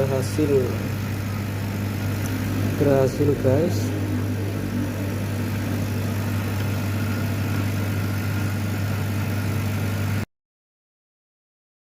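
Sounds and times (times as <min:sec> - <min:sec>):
laser cutting machine humming: 0:00.0 - 0:10.2.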